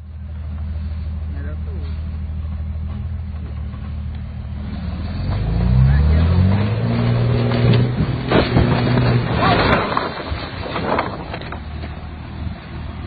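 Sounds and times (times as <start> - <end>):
truck engine revving: 1.4 - 13.0.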